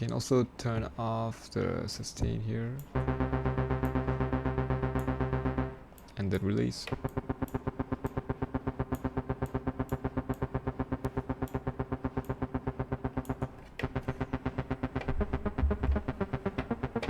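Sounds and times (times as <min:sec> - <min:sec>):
synthesizer bass arpeggio: 0:02.8 - 0:17.0.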